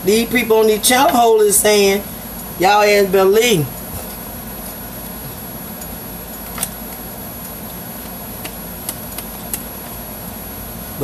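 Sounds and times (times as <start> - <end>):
fan-like hum: 0.0 - 11.0.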